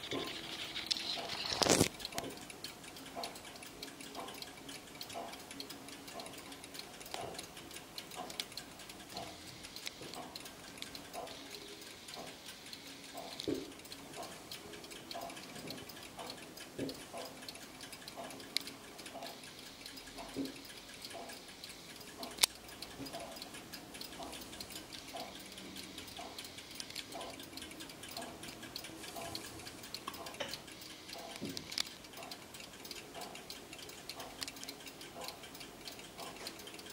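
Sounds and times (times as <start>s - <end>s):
clocks ticking: 0.0s - 36.9s
quick light clock ticking: 0.0s - 36.9s.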